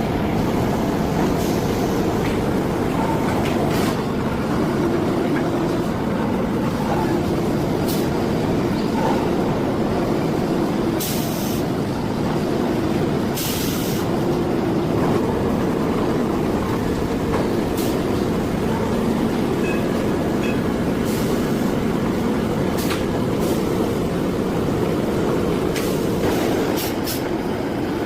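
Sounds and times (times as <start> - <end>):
factory machinery humming: 0.0 - 28.0.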